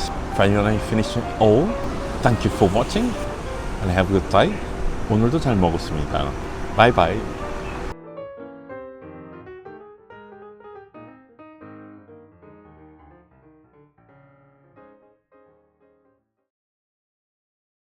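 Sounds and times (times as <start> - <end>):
piano-like keyboard tune: 0.0 - 16.2.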